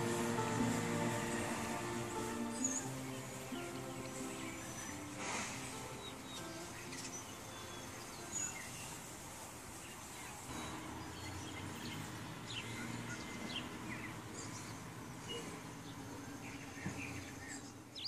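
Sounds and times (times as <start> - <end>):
background haze: 0.0 - 18.0
small birds chirping: 0.0 - 18.0.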